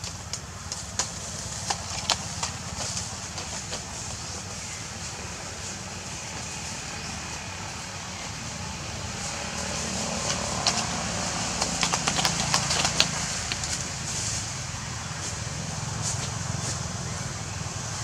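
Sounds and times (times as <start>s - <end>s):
dry leaves and twigs crackling: 0.0s - 17.6s.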